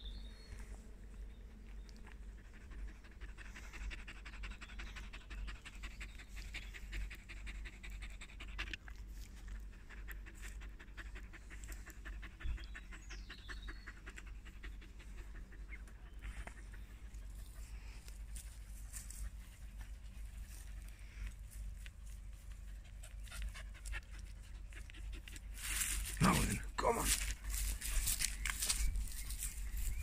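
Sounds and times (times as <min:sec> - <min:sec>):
dog panting rapidly: 0:02.1 - 0:30.0.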